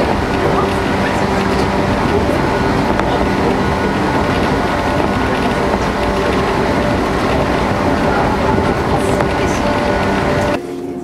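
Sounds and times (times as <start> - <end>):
steady train whine: 0.0 - 11.0
wheels rumbling on rail: 0.0 - 11.0.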